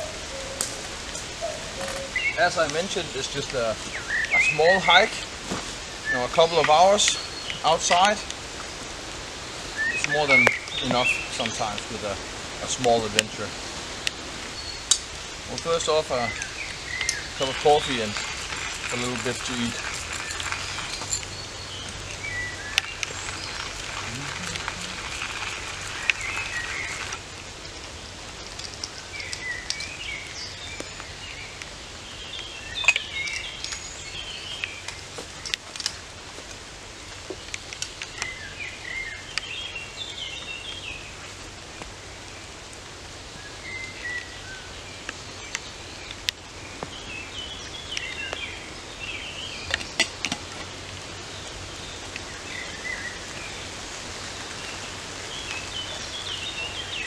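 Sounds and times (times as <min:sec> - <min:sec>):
small birds chirping: 0:00.0 - 0:36.1, 0:37.0 - 0:57.0
light rain: 0:00.0 - 0:57.0
wind: 0:00.0 - 0:57.0.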